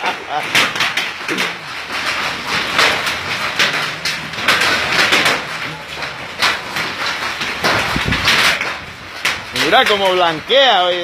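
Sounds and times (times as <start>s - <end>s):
heavy rain and hail falling: 0.0s - 11.0s.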